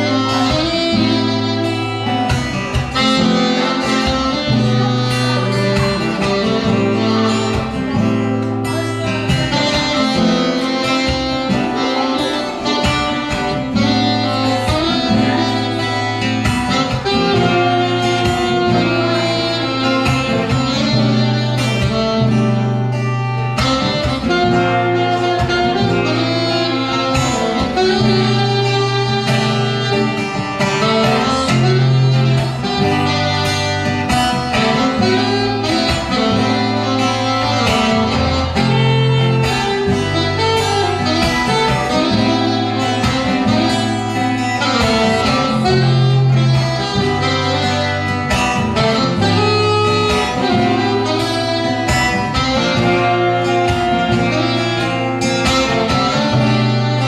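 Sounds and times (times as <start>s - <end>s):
acoustic guitar accompaniment: 0.0s - 57.0s
bass line: 0.0s - 57.0s
saxophone melody: 0.0s - 57.0s.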